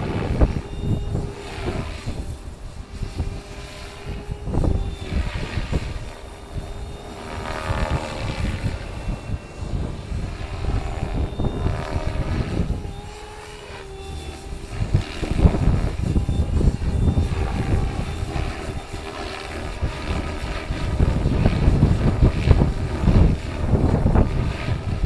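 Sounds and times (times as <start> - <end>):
model helicopter whining: 0.0 - 25.0
wind buffeting microphone: 0.0 - 25.0.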